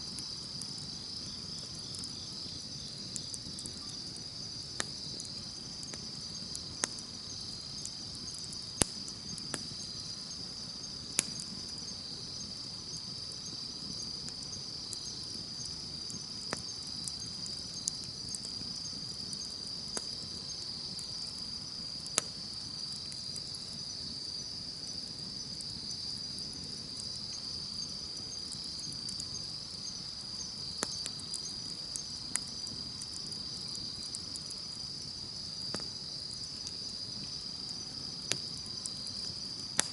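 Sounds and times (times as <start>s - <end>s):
campfire hissing: 0.0s - 39.9s
fire popping and snapping: 0.0s - 39.9s
insects chirping: 0.0s - 39.9s.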